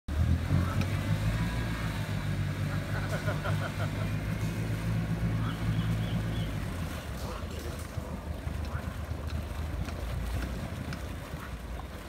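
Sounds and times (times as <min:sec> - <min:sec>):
engine running at low revs: 0:00.1 - 0:12.0.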